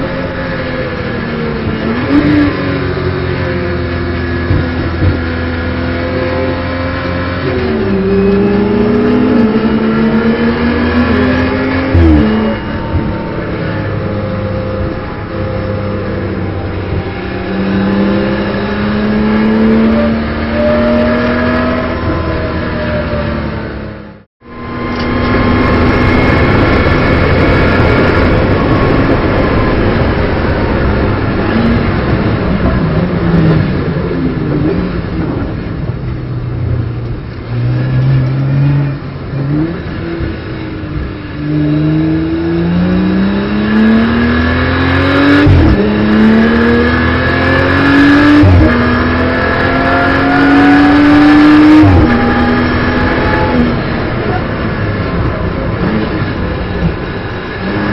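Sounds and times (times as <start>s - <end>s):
race car engine accelerating: 0.0s - 57.9s.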